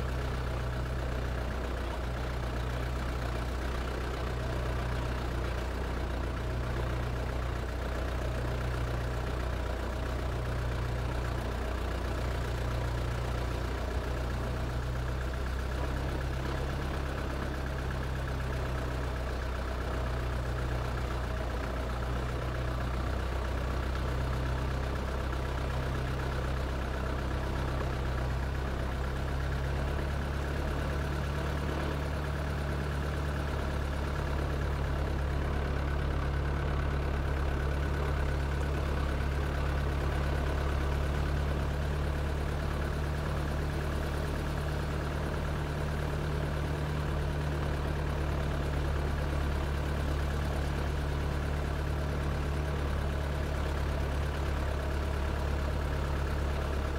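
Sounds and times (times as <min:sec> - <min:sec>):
low engine hum: 0:00.0 - 0:56.9.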